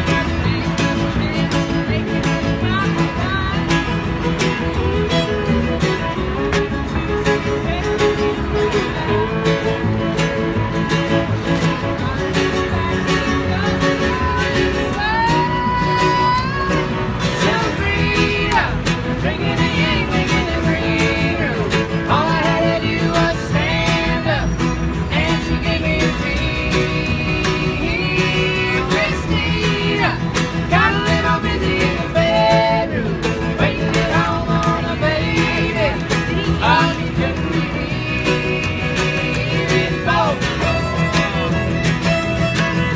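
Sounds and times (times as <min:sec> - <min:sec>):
fiddle melody: 0:00.0 - 0:42.9
plucked double bass: 0:00.0 - 0:42.9
strummed acoustic guitar: 0:00.0 - 0:42.9.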